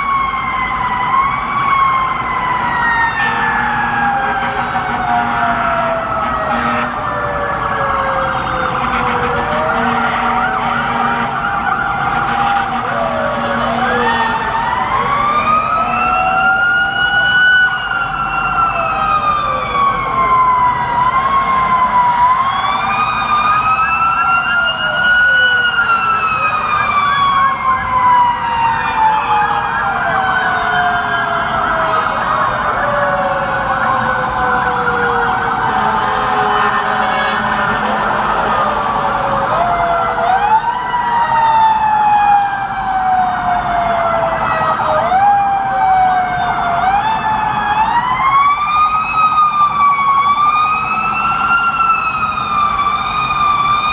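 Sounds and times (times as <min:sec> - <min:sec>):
road noise: 0:00.0 - 0:53.9
siren sliding down: 0:00.0 - 0:53.9
wailing siren: 0:00.0 - 0:53.9
yelping siren: 0:00.0 - 0:53.9.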